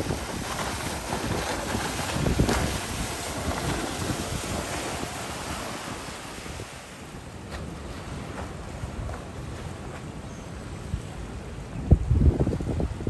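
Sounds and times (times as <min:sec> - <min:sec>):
spray and wake rushing: 0:00.0 - 0:13.0
wind buffeting microphone: 0:00.0 - 0:13.0.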